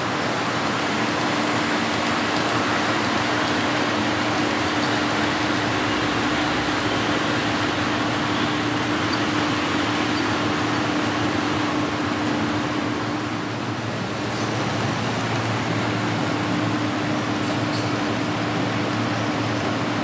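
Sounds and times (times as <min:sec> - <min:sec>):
model trains whirring: 0:00.0 - 0:19.2.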